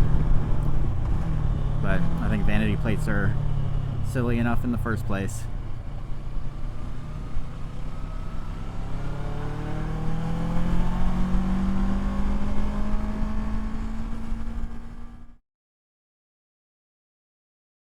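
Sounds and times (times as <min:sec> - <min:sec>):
motorcycle engine accelerating: 0:00.0 - 0:15.4.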